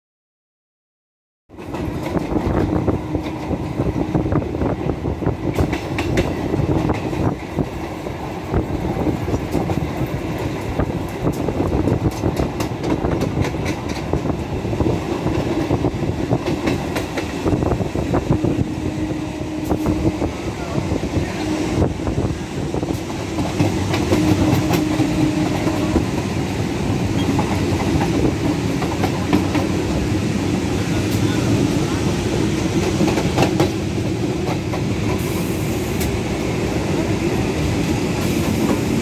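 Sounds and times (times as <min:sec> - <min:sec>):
train wheels rumbling on track: 0:01.5 - 0:39.0.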